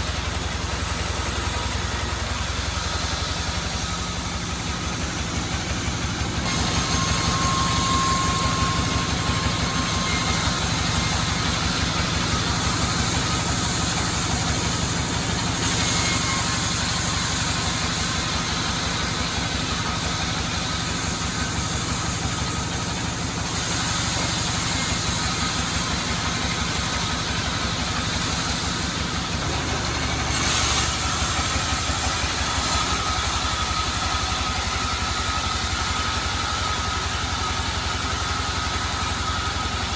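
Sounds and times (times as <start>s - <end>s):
engine running: 0.0s - 39.9s
high hissing saw: 0.0s - 39.9s.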